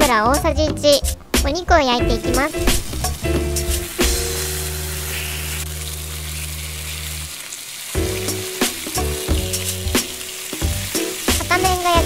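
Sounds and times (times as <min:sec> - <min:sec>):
background music: 0:00.0 - 0:12.0
pork sizzling in frying pan: 0:02.1 - 0:12.0.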